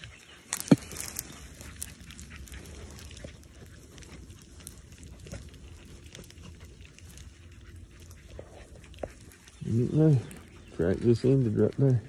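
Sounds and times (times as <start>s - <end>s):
dry grass rustling: 0.0s - 12.0s
twigs snapping: 0.0s - 12.0s
low steady rumble: 0.7s - 12.0s.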